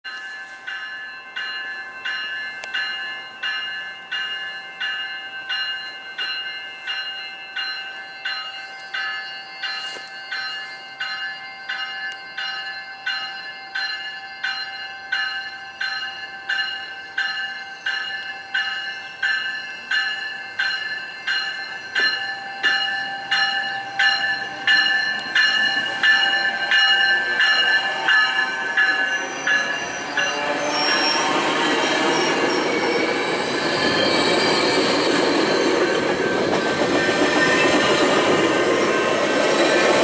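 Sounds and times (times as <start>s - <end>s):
train warning bell ringing: 0.0s - 40.0s.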